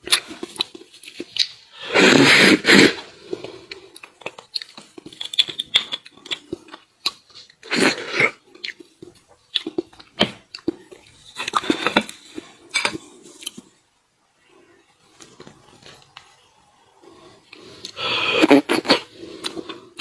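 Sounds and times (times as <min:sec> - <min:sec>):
wet slurping and chewing: 0:00.0 - 0:13.8, 0:17.0 - 0:20.0.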